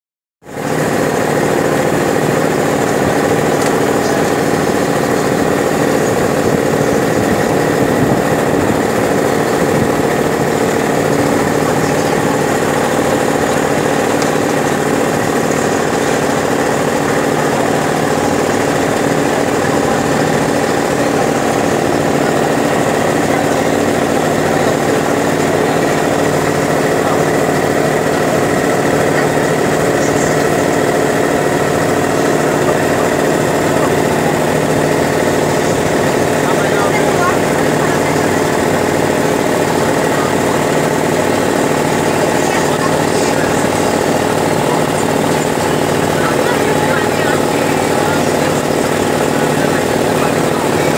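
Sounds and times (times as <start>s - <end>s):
boat engine running: 0.4s - 50.9s.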